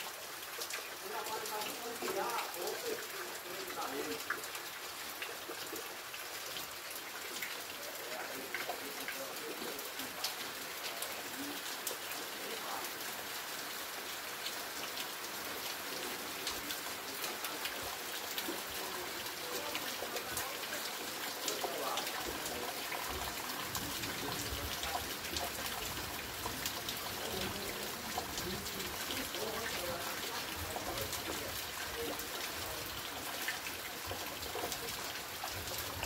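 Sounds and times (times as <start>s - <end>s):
heavy rain on leaves: 0.0s - 36.0s.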